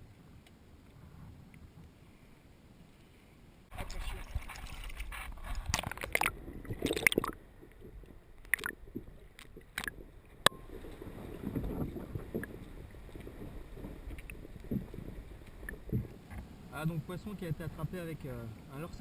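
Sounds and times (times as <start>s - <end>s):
water splashing: 3.7s - 19.0s.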